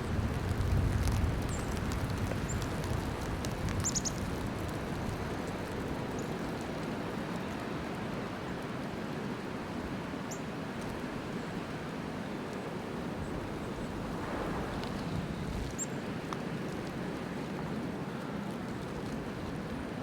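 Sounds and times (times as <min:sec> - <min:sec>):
snowstorm wind: 0:00.0 - 0:20.0.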